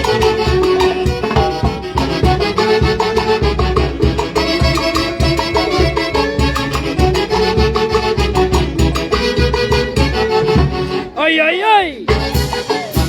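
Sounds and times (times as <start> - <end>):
folk band music with driving beat: 0.0 - 13.0.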